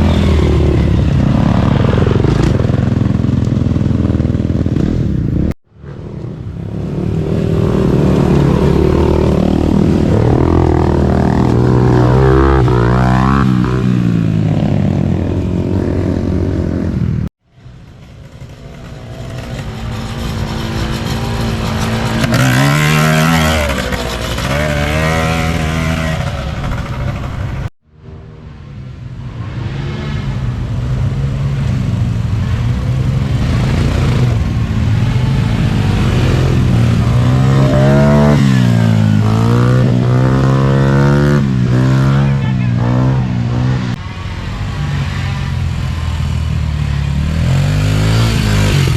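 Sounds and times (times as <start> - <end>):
atv engines revving: 0.0 - 28.4, 29.4 - 48.9.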